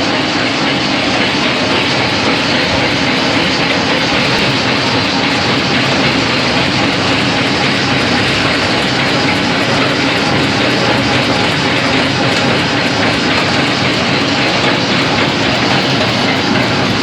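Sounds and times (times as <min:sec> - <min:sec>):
sifting machine rattling: 0:00.0 - 0:17.0
faint regular ticking: 0:00.2 - 0:17.0.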